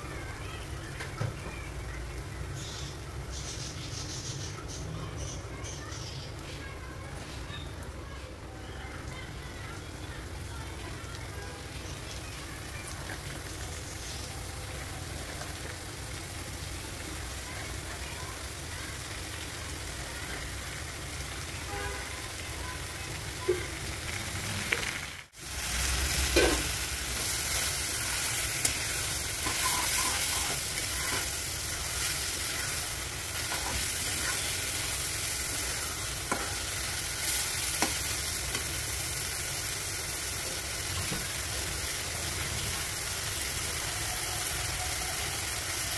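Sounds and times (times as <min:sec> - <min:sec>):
greens sizzling in a pan: 0:00.0 - 0:45.9.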